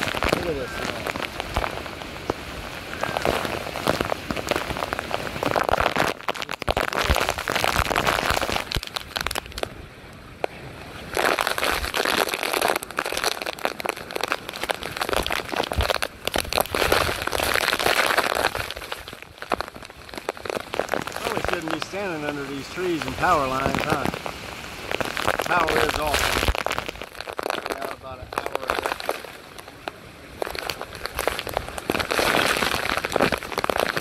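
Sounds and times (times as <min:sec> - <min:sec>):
heavy rain pelting: 0:00.0 - 0:09.7, 0:11.2 - 0:34.0
raindrops crackling on microphone: 0:00.0 - 0:34.0
wind: 0:00.0 - 0:34.0.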